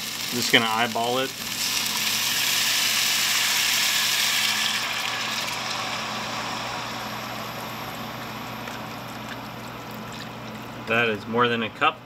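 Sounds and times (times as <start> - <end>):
broth sizzling in hot pan: 0.0 - 10.8.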